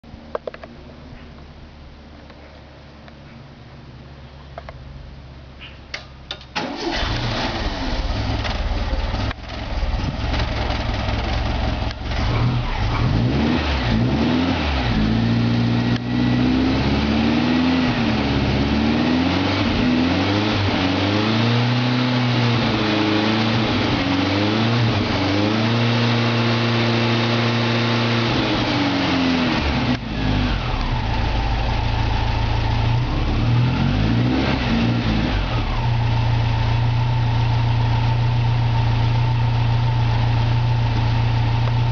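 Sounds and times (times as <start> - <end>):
car engine starting and revving: 6.6 - 41.9.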